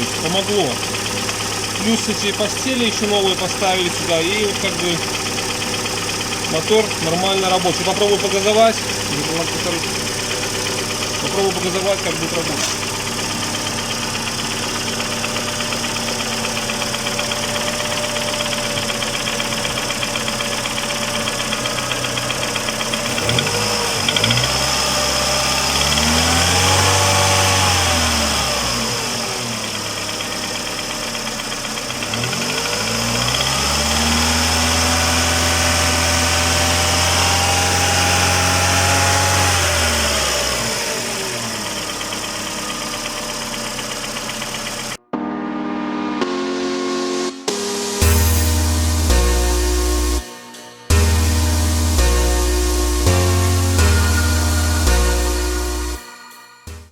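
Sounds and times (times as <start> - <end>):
car engine idling and revving: 0.0 - 45.0, 47.5 - 50.2, 50.9 - 56.0.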